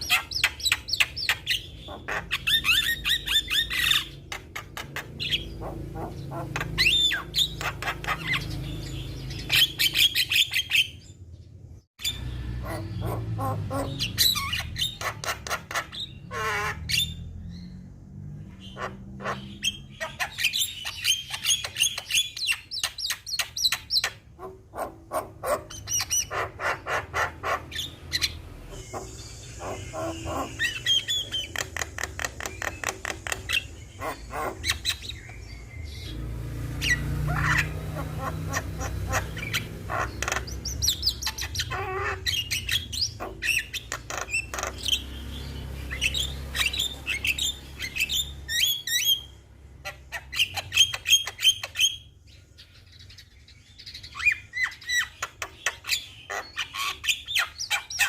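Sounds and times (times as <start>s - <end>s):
bird singing chattering notes: 0.0s - 17.7s, 18.6s - 58.0s.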